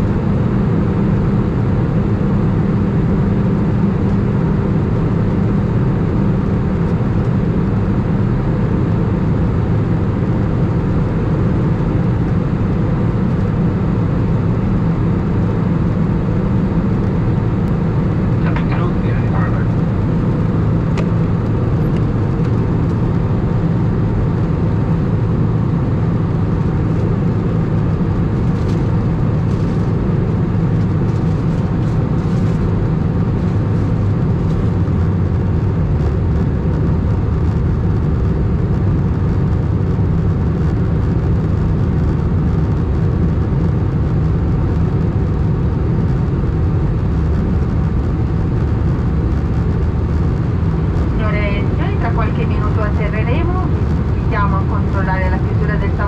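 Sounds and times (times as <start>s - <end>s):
airflow rushing in aircraft cabin: 0.0s - 56.0s
jet engines: 0.0s - 56.0s.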